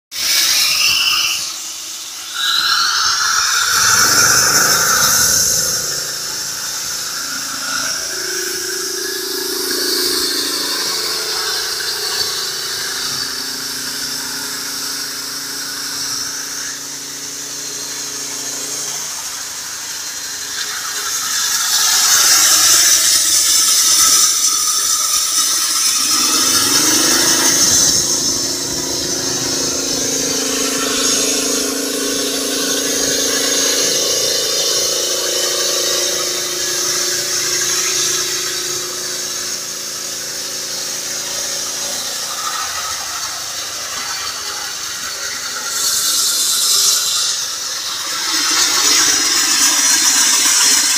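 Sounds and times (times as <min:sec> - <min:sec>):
high-pitched blade squeal: 0:00.2 - 0:50.9
small petrol engine running: 0:00.2 - 0:50.9.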